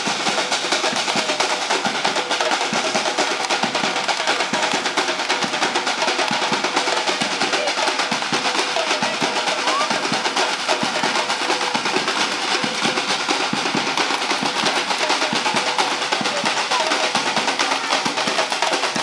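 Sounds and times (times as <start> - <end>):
drum line beating drums: 0.0 - 19.0.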